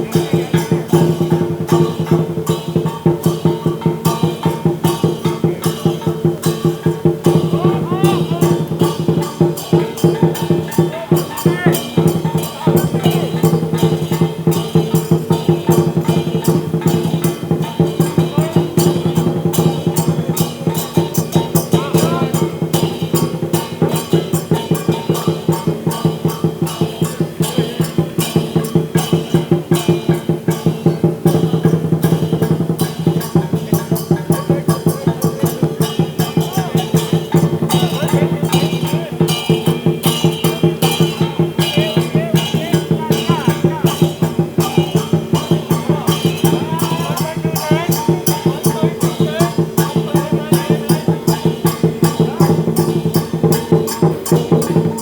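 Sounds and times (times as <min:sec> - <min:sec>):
cymbals clashing: 0:00.0 - 0:55.0
drum beating: 0:00.0 - 0:55.0.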